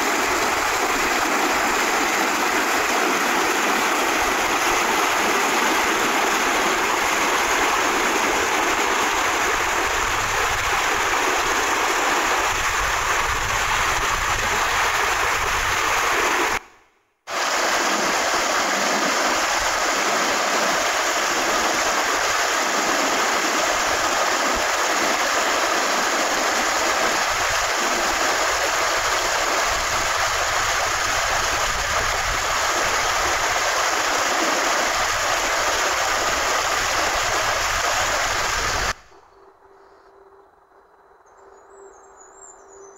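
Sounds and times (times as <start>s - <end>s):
stream rushing over rocks: 0.0s - 16.6s, 17.3s - 39.0s.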